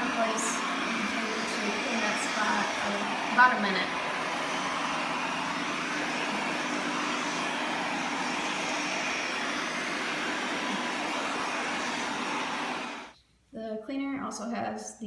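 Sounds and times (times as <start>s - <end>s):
robot vacuum whirring: 0.0s - 13.1s.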